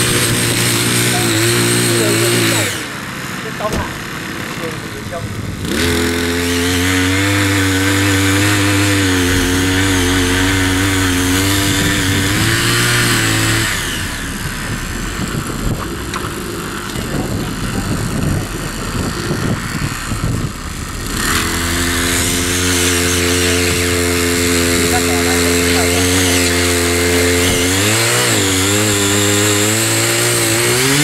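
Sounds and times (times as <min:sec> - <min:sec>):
small tiller engine running: 0:00.0 - 0:31.0.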